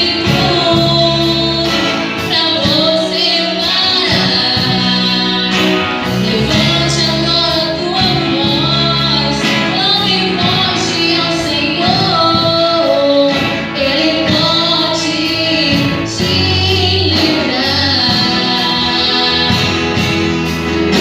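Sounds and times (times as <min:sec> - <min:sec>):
woman singing: 0:00.0 - 0:20.3
band accompaniment: 0:00.0 - 0:21.0.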